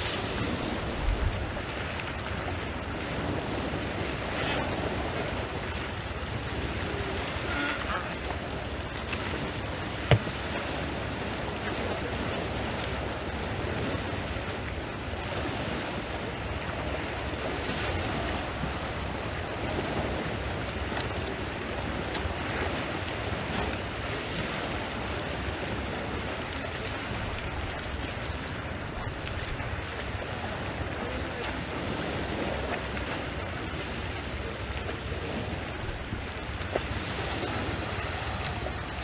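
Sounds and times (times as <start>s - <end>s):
waves washing on pebbles: 0.0s - 39.0s
wind rumbling on microphone: 0.0s - 39.0s.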